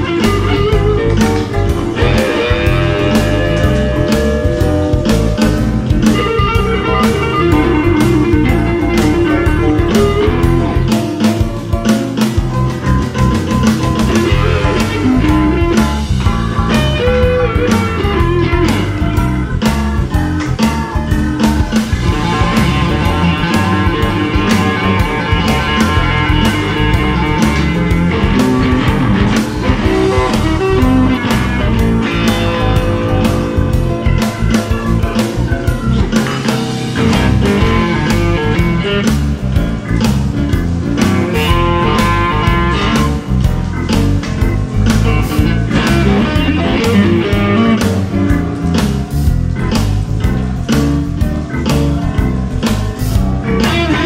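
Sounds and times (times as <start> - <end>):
bass: 0.0 - 54.0
drum beat: 0.0 - 54.0
electric guitar playing rock: 0.0 - 54.0.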